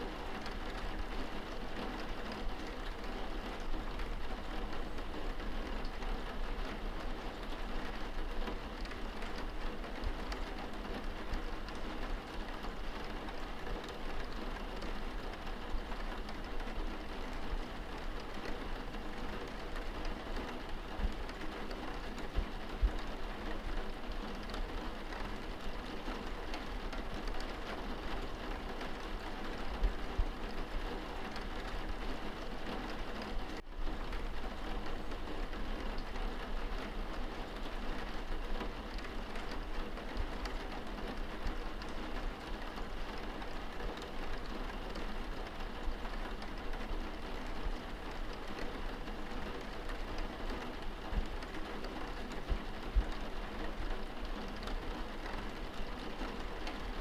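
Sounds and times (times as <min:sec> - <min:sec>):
rain on window glass: 0:00.0 - 0:57.0.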